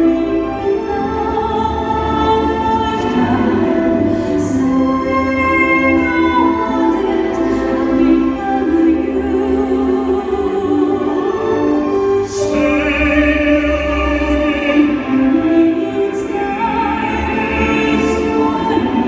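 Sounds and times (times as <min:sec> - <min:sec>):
man and woman singing operatic duet: 0:00.0 - 0:19.0.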